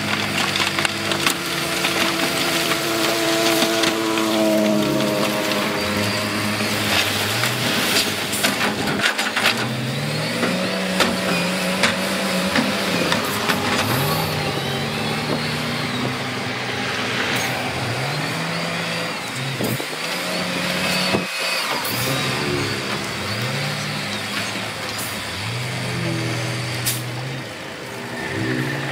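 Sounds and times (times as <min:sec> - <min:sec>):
diesel machine engine revving: 0:00.0 - 0:28.9.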